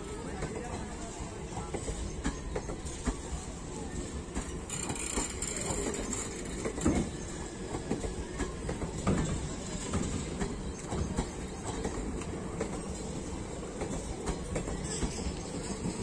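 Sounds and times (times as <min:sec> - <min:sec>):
train coaches rumbling past: 0:00.0 - 0:16.0.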